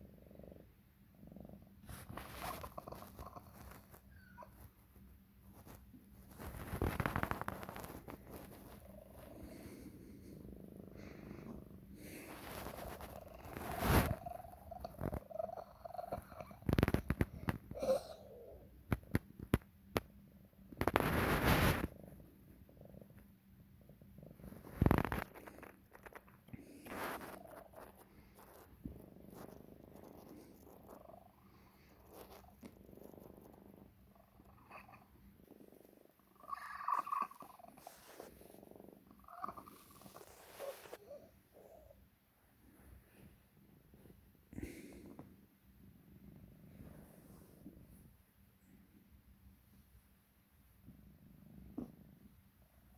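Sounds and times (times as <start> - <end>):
cat purring wheezily: 0.0 - 19.6, 20.2 - 49.2, 50.8 - 52.9.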